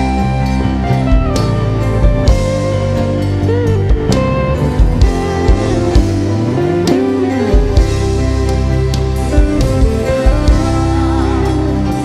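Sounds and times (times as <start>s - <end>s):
bass line: 0.0s - 12.0s
sustained keyboard chords: 0.0s - 12.0s
wavering melody line: 0.0s - 12.0s
drum hits: 1.1s - 11.2s.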